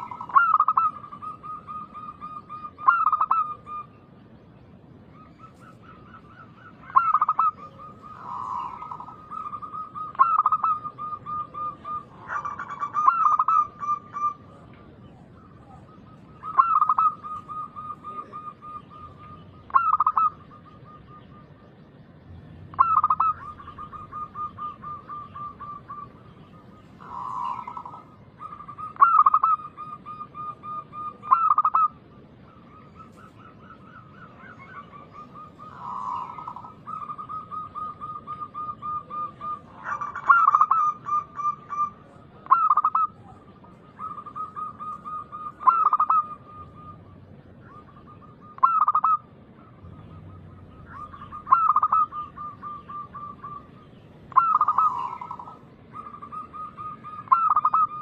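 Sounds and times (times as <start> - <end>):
dove cooing: 0.0 - 4.1, 5.0 - 21.7, 22.6 - 58.0.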